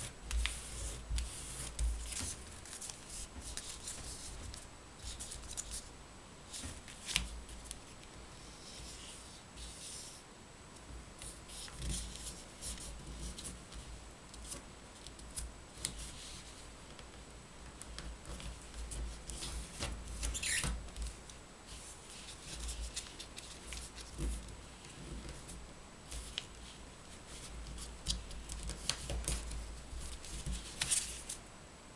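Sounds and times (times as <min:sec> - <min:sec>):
paper rustling and crinkling: 0:00.0 - 0:05.9, 0:06.5 - 0:10.2, 0:11.2 - 0:16.6, 0:17.8 - 0:31.4.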